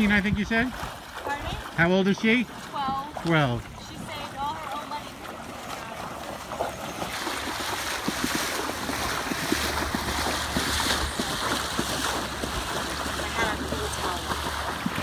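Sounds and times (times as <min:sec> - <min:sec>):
floodwater sloshing and splashing: 0:00.0 - 0:15.0.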